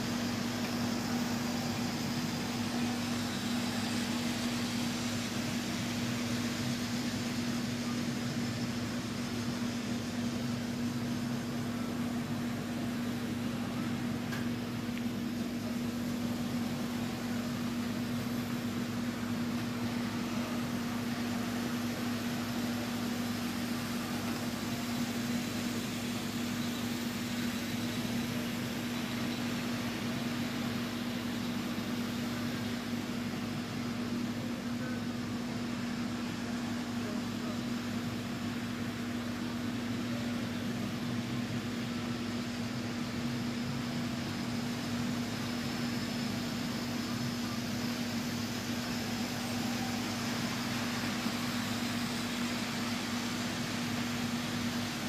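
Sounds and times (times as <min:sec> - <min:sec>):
model train motor hum: 0:00.0 - 0:55.0.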